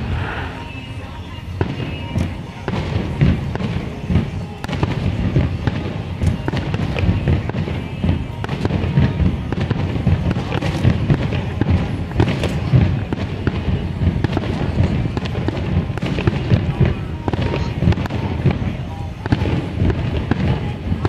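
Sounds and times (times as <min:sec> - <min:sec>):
fireworks booming and cracking: 0:00.0 - 0:21.0.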